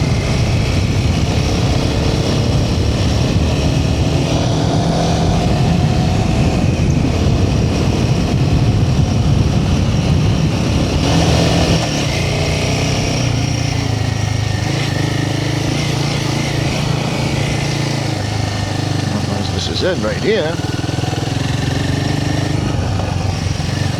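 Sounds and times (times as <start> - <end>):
motorcycle engine running: 0.0 - 23.9
road noise: 0.0 - 23.9
wind noise: 0.0 - 23.9.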